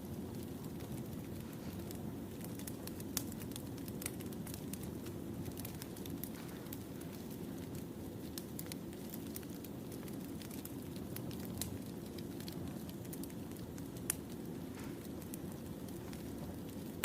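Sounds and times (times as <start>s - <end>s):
campfire flames rushing: 0.0s - 17.0s
firewood crackling and popping: 0.0s - 17.0s.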